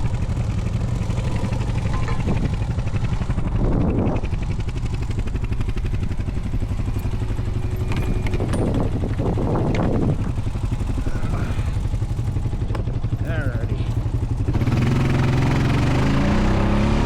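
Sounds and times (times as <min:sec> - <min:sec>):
atv engine running under load: 0:00.0 - 0:17.0.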